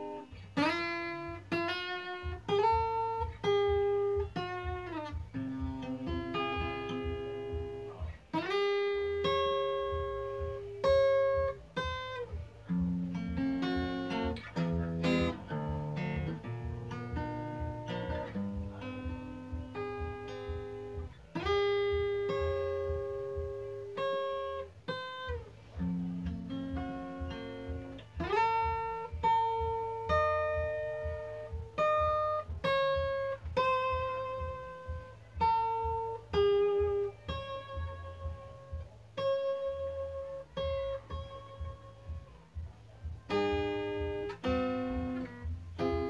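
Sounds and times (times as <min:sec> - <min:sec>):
fingerstyle acoustic guitar: 0:00.0 - 0:46.0.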